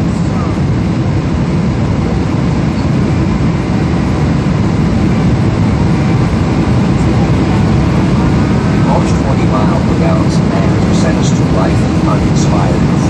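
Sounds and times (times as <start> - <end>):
jet cabin engine rumble: 0.0 - 13.0.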